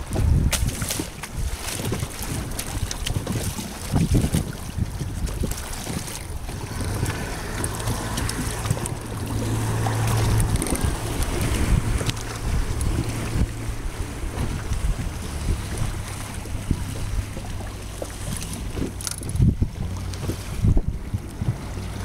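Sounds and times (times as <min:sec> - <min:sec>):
splashing water: 0:00.0 - 0:22.0
wind buffeting microphone: 0:00.0 - 0:22.0.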